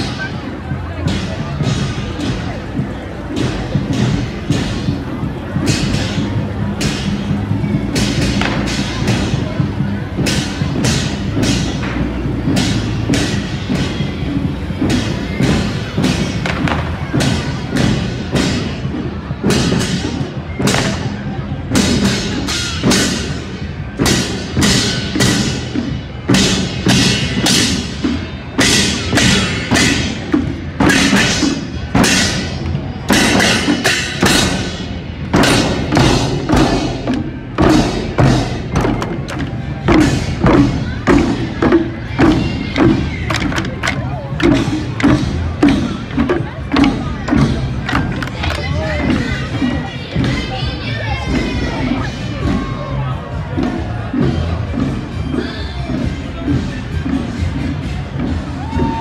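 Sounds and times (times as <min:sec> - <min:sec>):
crowd noise: 0:00.0 - 0:59.0
marching drums beating: 0:00.0 - 0:59.0.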